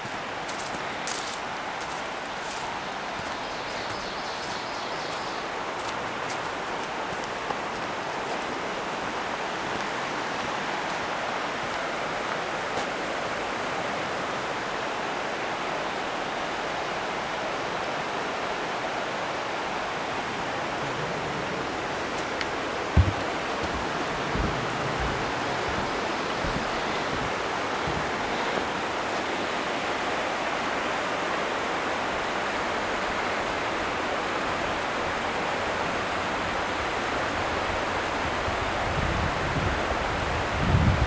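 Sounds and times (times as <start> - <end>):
river water rushing: 0.0 - 39.0.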